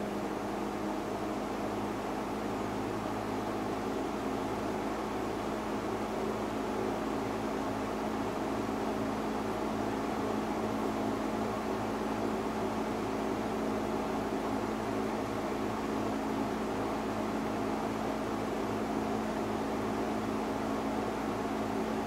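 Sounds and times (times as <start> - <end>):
box fan motor hum: 0.0 - 22.0.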